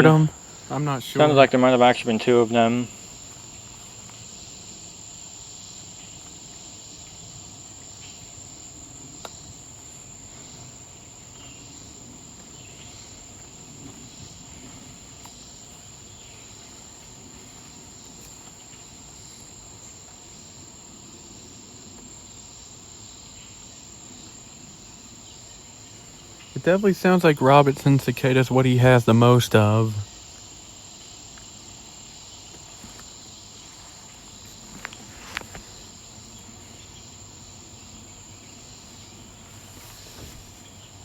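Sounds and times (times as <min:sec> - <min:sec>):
insect chorus drone: 0:00.0 - 0:41.0.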